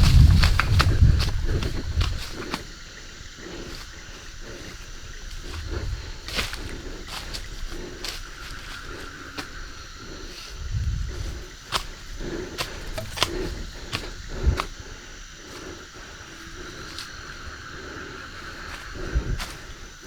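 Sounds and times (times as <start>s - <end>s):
soft low rumbles: 0.0s - 8.8s, 9.6s - 20.0s
high insect drone: 0.0s - 20.0s.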